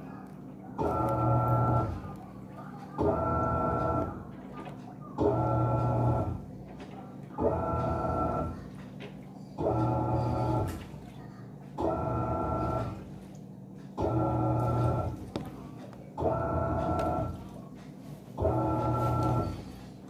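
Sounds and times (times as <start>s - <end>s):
washing machine agitating: 0.0s - 20.0s.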